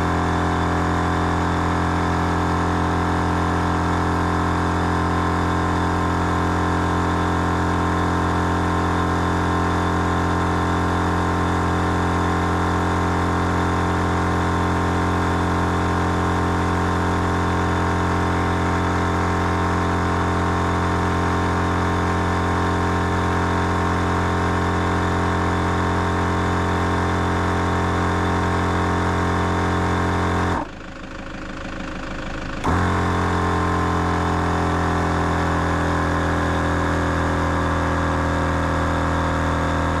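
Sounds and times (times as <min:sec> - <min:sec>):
air compressor running: 0:00.0 - 0:40.0.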